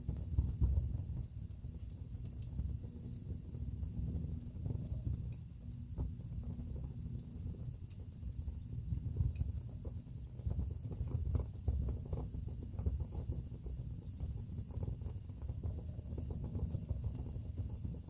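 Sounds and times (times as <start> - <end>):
burning logs crackling and popping: 0.0 - 18.0
low rumble of flames: 0.0 - 18.0.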